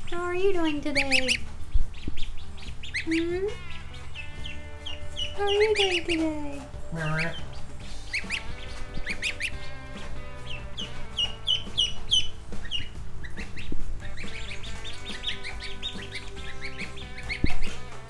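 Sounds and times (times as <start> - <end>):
chicks and ducklings peeping: 0.0 - 18.0.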